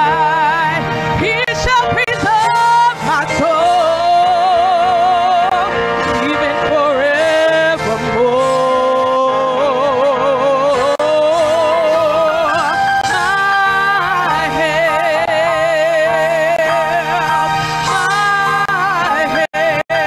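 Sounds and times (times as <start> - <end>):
held instrumental chords: 0.0 - 20.0
woman singing gospel: 0.0 - 20.0.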